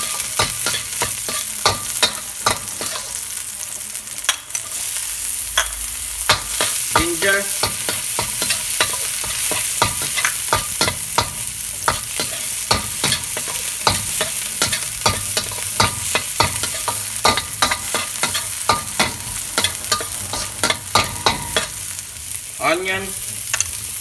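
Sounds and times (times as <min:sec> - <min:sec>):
utensil scraping metal wok: 0:00.0 - 0:03.4, 0:04.2 - 0:24.0
garlic sizzling in oil: 0:00.0 - 0:24.0.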